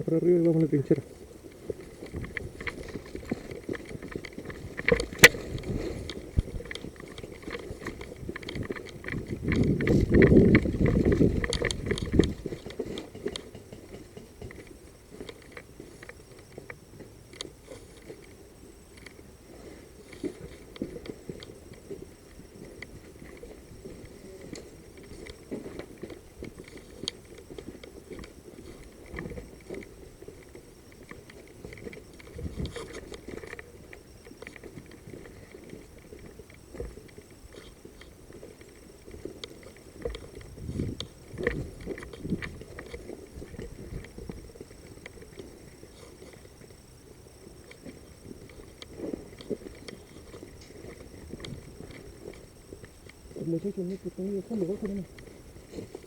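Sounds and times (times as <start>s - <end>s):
footsteps on rough ground: 0.0s - 56.0s.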